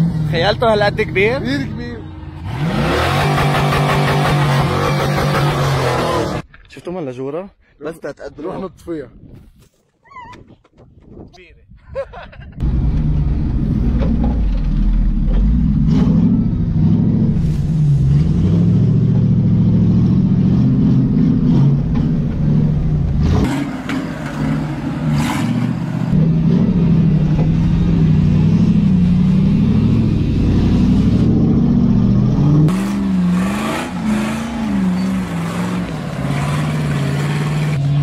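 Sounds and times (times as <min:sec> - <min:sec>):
vehicle engine revving under load: 0:00.0 - 0:06.4, 0:12.6 - 0:38.0.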